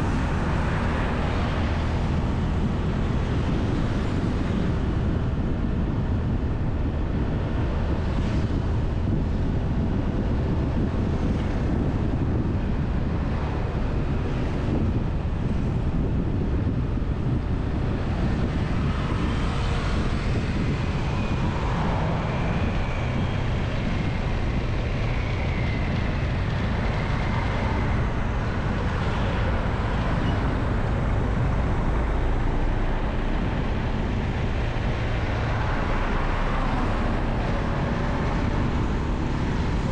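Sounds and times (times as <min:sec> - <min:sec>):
passing motorbikes and cars: 0:00.0 - 0:39.9
wind noise on microphone: 0:00.0 - 0:39.9.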